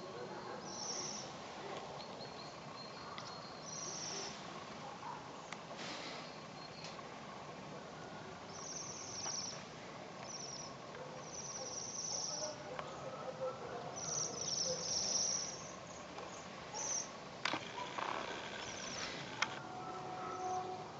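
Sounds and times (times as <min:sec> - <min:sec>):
birds trilling: 0:00.0 - 0:07.0, 0:08.1 - 0:20.9.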